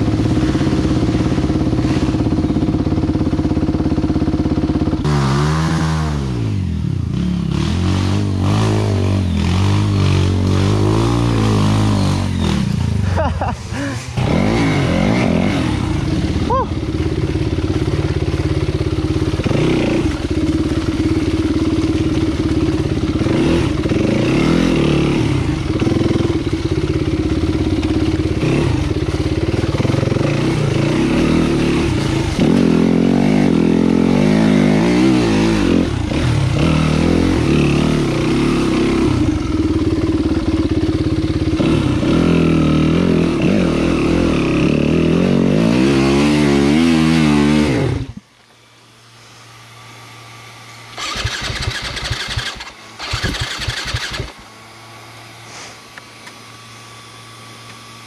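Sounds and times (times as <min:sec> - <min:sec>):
dirt bike engine revving: 0:00.0 - 0:48.2, 0:49.5 - 0:55.9.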